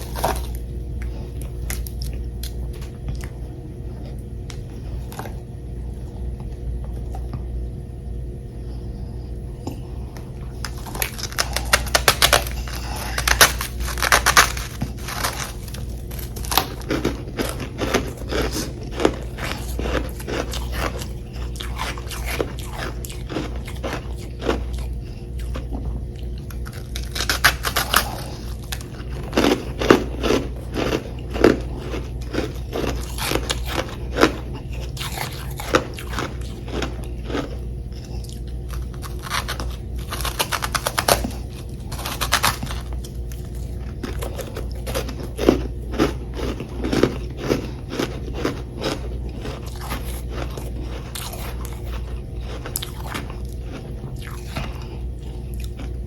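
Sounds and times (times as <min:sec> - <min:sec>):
crunching and chewing ice: 0:00.0 - 0:07.4, 0:09.6 - 0:56.0
low steady hum: 0:00.0 - 0:56.0.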